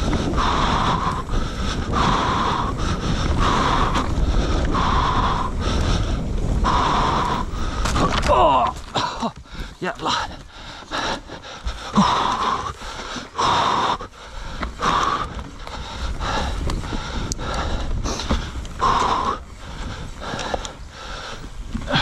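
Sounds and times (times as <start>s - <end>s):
person breathing hard: 0.0s - 22.0s.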